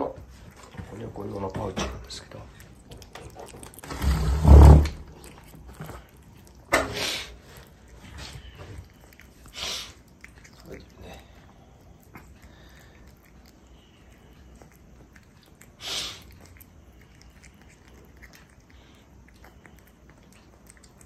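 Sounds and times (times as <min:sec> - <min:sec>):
kitten chewing wet food: 0:00.0 - 0:21.0.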